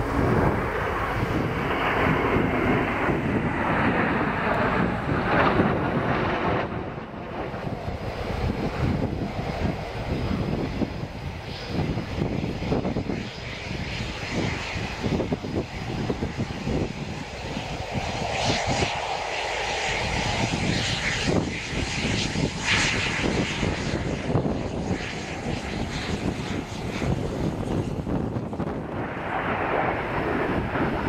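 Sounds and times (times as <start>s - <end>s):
jet engine whine: 0.0s - 31.0s
jet engines rumbling: 0.0s - 31.0s.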